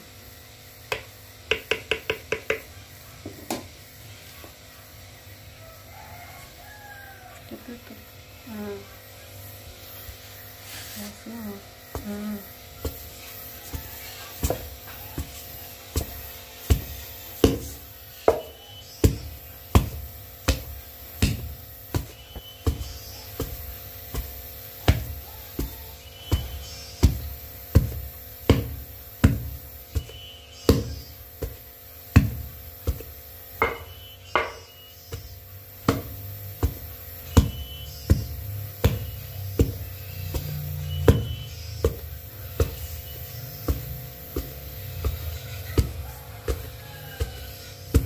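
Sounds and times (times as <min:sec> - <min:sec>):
pestle pounding dough in mortar: 0:00.9 - 0:03.8, 0:11.2 - 0:48.0.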